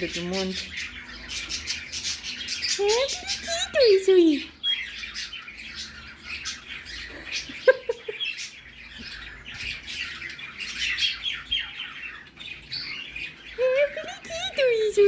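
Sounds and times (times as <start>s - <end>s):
cockatiel warbling and chirping: 0.0s - 15.0s.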